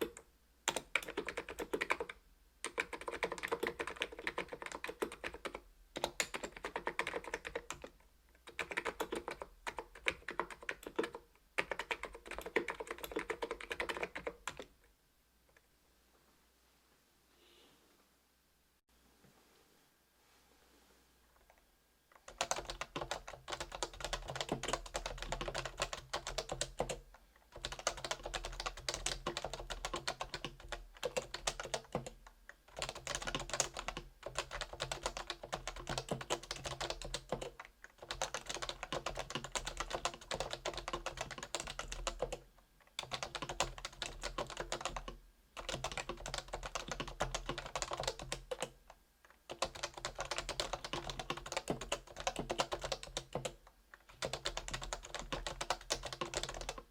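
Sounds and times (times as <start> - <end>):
keyboard typing: 0.0 - 14.7, 22.1 - 56.9.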